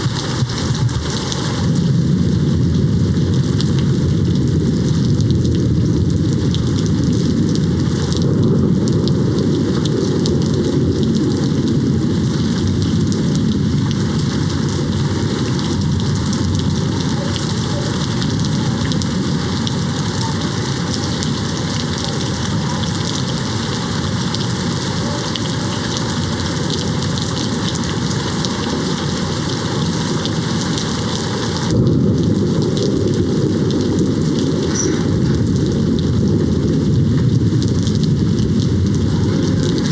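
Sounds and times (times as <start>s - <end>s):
distant thunder rumble: 0.0s - 39.9s
rain pattering: 0.0s - 39.9s.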